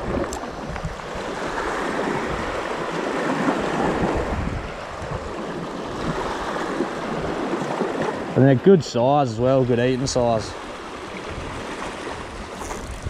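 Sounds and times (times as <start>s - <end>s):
wind buffeting microphone: 0.0s - 8.6s, 9.6s - 13.0s
waves washing against rocks: 0.0s - 13.0s.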